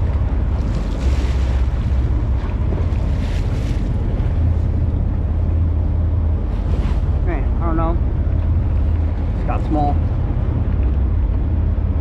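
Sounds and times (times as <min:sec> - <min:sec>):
water splashing at boat side: 0:00.0 - 0:12.0
wind buffeting microphone: 0:00.0 - 0:12.0.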